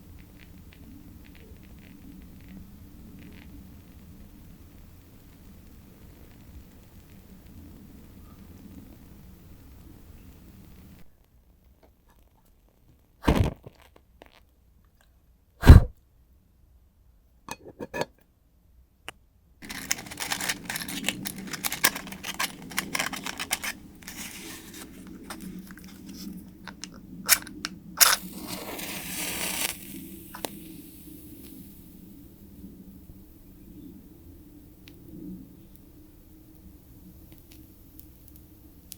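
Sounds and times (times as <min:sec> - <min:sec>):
candle crackling and popping: 0:00.0 - 0:14.5, 0:19.6 - 0:38.9.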